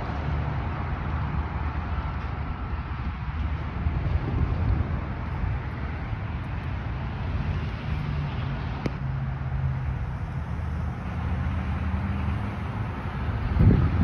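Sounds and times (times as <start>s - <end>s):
wind buffeting microphone: 0.0s - 11.0s, 11.7s - 14.0s
road traffic: 0.0s - 14.0s.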